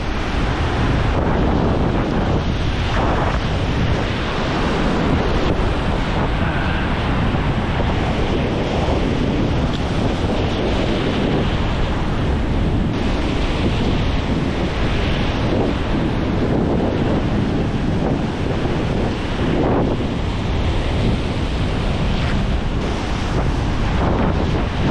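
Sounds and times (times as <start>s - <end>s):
surf breaking on a beach: 0.0s - 24.9s
wind buffeting microphone: 0.0s - 24.9s.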